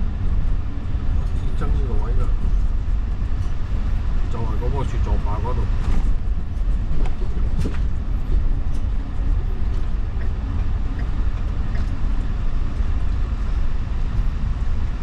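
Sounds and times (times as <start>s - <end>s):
road vehicle rumbling: 0.0s - 15.0s.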